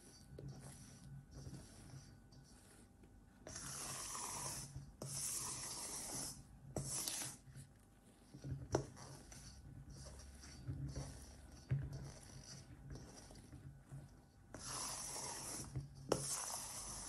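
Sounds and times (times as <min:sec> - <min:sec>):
spatula scraping batter in bowl: 0:00.0 - 0:17.0.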